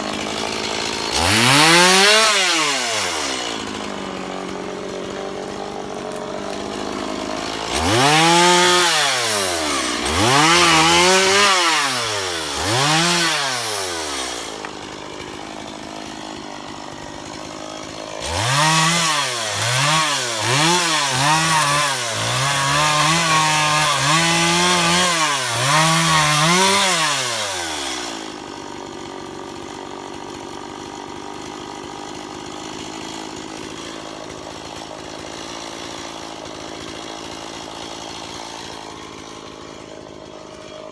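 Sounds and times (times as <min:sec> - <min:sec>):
chainsaw idling: 0:00.0 - 0:40.9
chainsaw revving: 0:00.0 - 0:40.9.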